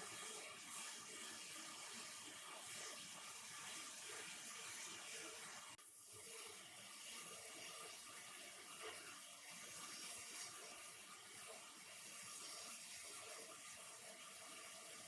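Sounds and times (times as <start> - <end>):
steady even hiss: 0.0 - 15.0.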